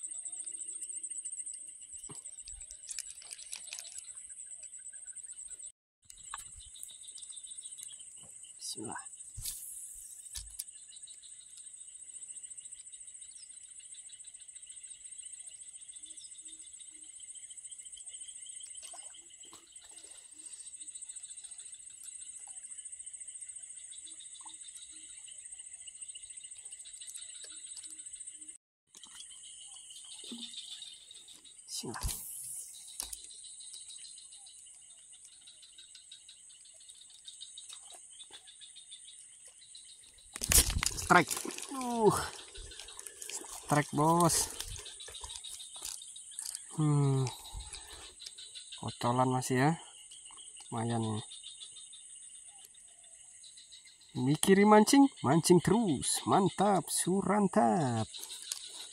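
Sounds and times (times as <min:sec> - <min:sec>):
insects trilling: 0:00.0 - 0:58.9.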